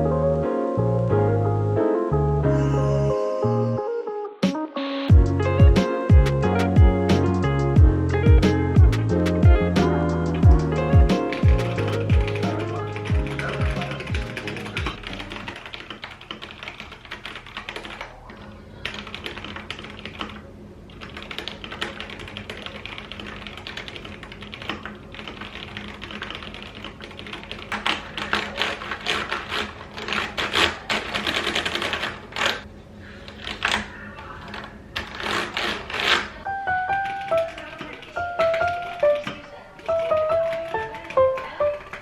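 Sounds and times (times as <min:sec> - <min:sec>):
rapid clicking and tapping: 0:05.1 - 0:18.2, 0:18.8 - 0:32.6, 0:35.0 - 0:42.0.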